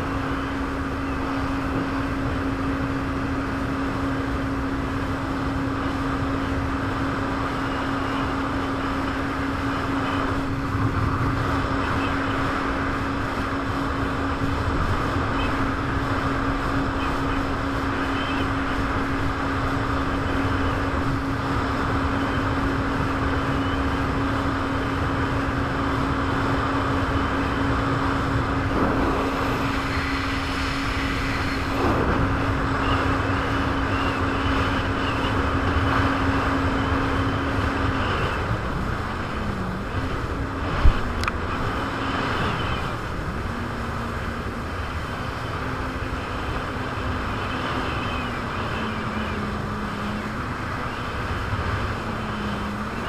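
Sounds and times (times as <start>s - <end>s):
jet ski engine running: 0.0s - 53.0s.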